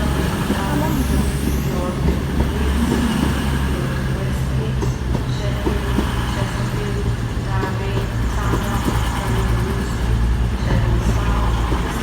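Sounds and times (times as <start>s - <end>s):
train diesel engines droning: 0.0s - 12.0s.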